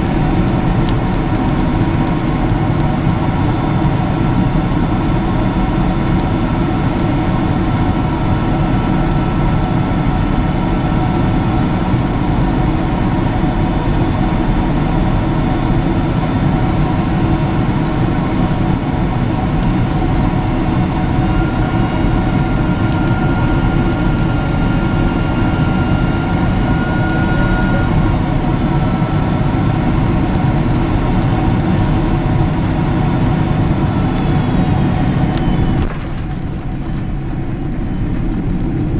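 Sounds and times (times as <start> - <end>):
jet engine and airflow rumble: 0.0 - 38.9
steady whining tones: 0.0 - 38.9.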